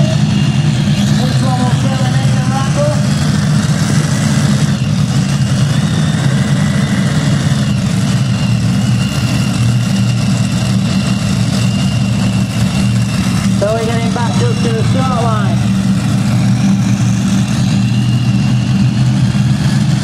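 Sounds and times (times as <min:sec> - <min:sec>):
tractor engine low rumble: 0:00.0 - 0:20.0.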